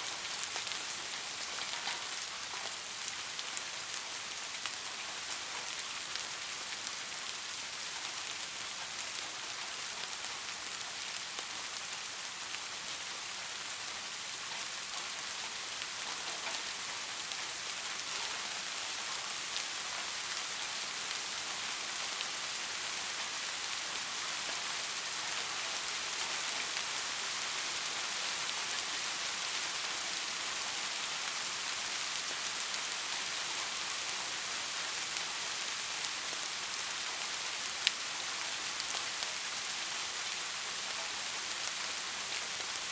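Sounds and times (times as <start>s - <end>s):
rain hissing on a surface: 0.0s - 42.9s.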